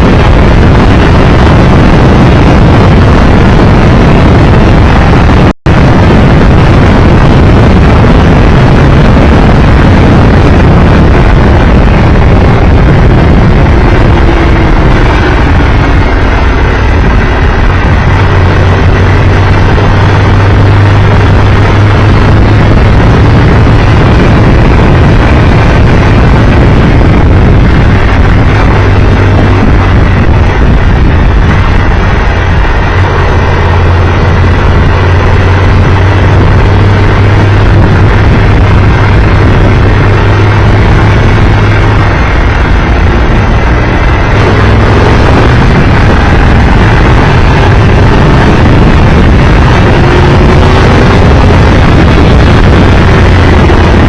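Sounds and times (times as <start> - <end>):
motorcycle engine hum: 0.0 - 54.0
wind rush on microphone: 0.0 - 54.0.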